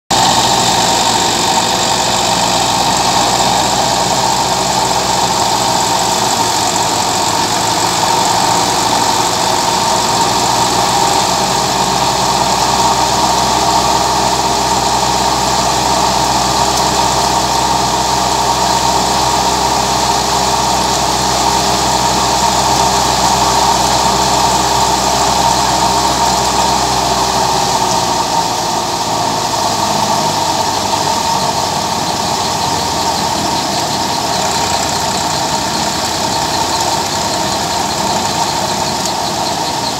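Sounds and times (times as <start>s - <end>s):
tractor diesel engine: 0.0s - 39.9s
high-pitched hum: 0.1s - 39.9s
thresher drum and fan spinning: 0.1s - 39.9s.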